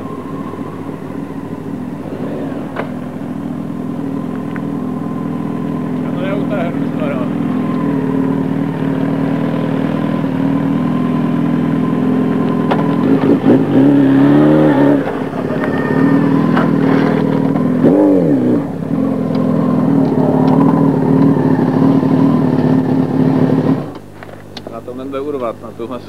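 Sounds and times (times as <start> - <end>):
motorcycle engine revving: 0.0 - 24.1
motorcycle engines running: 0.0 - 26.0.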